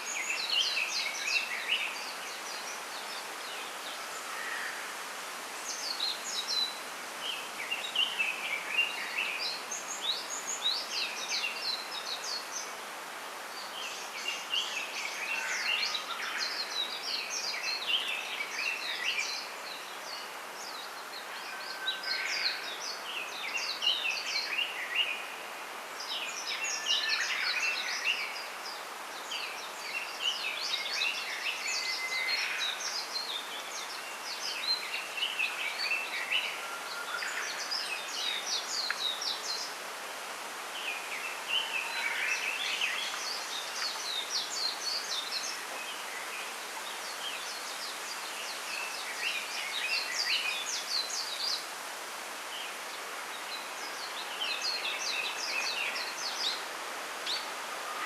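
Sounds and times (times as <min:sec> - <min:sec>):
background hiss: 0:00.0 - 0:58.0
songbirds chirping: 0:00.0 - 0:58.0.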